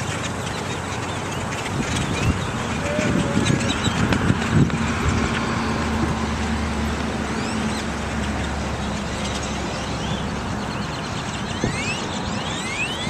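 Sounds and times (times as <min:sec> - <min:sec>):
birds chirping: 0:00.0 - 0:13.0
traffic rumble: 0:00.0 - 0:13.0.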